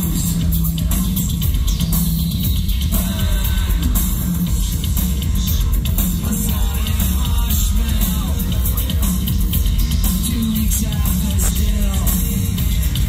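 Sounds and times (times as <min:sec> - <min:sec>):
heavy bass and drums: 0:00.0 - 0:13.0.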